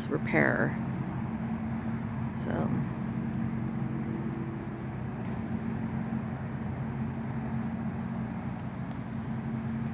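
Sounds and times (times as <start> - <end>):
vehicle engine idling: 0.0 - 9.9.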